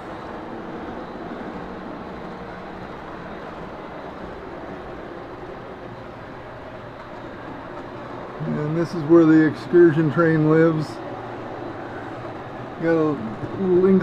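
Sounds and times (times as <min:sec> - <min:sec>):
model train rumbling: 0:00.0 - 0:14.0.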